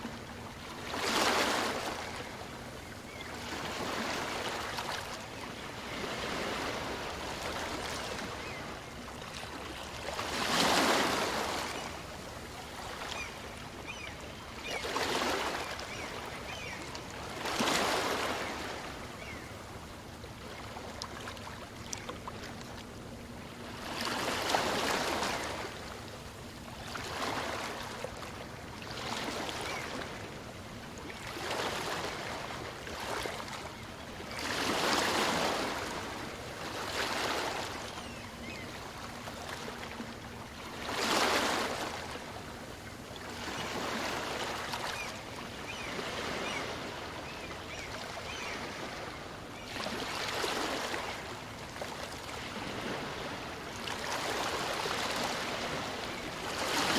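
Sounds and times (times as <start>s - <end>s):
small waves washing on a beach: 0.0s - 56.9s.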